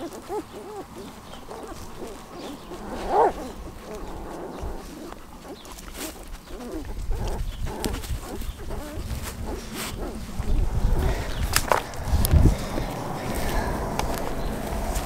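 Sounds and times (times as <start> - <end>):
puppies squeaking: 0.0 - 12.1.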